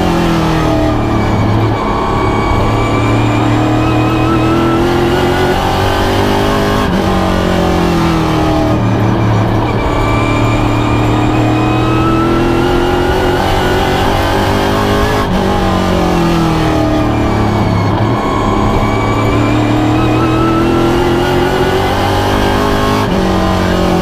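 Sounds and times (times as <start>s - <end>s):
race car engine revving: 0.0s - 24.0s
road and wind noise: 0.0s - 24.0s.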